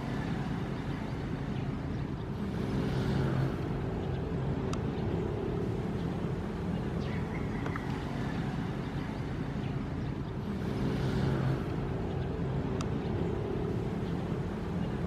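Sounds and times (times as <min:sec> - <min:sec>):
ocean waves rumbling: 0:00.0 - 0:15.0.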